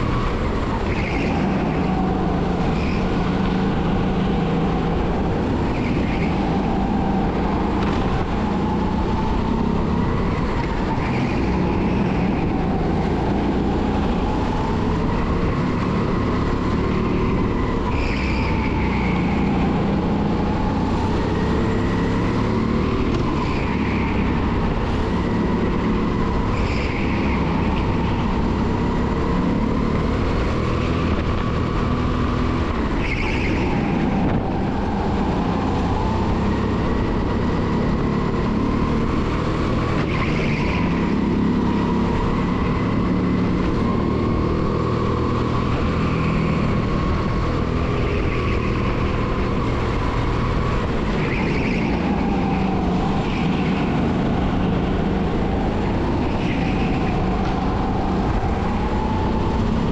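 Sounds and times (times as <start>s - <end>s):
kart engine racing: 0.0s - 59.9s.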